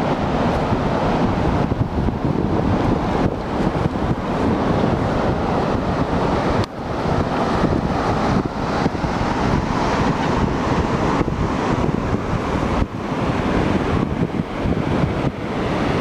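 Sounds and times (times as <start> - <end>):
ocean surf: 0.0 - 16.0
wind on microphone: 0.0 - 16.0.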